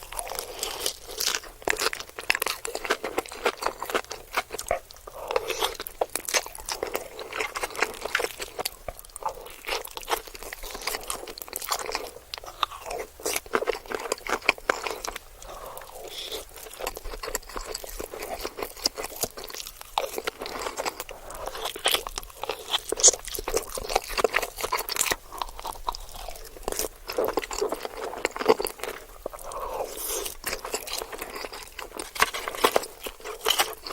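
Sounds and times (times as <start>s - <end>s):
close chewing with mouth clicks: 0.0s - 33.9s.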